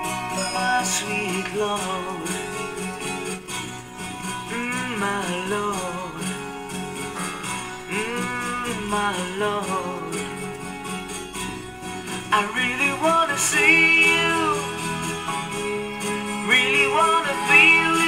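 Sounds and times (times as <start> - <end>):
gliding melody line: 0.0 - 18.0
strummed acoustic guitars: 0.0 - 18.0.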